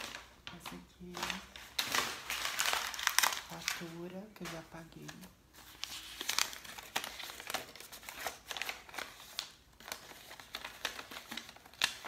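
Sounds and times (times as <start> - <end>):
paper bill crinkling: 0.0 - 12.0.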